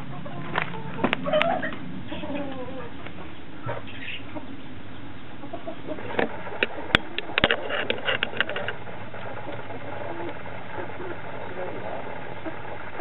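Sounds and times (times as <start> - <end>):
hens clucking: 0.0 - 13.0
steady background hiss: 0.0 - 13.0.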